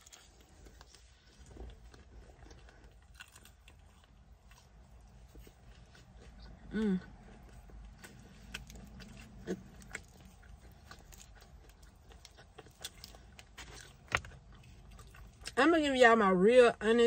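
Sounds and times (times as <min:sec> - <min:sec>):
chewing crunchy pizza: 0:00.0 - 0:15.7.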